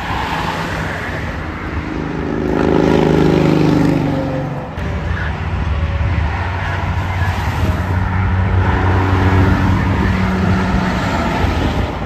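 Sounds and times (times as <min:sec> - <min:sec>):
truck diesel engines droning: 0:00.0 - 0:12.0.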